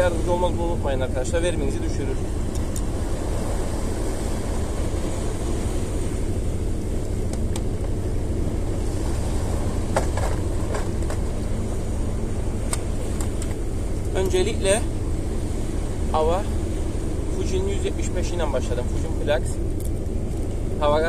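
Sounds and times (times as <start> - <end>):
sea surf on shore: 0.0 - 21.0
wind rumble: 0.0 - 21.0.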